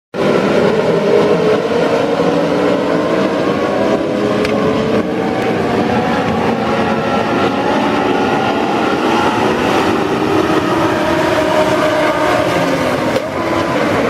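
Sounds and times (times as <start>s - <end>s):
race car engines at high revs: 0.2s - 14.0s.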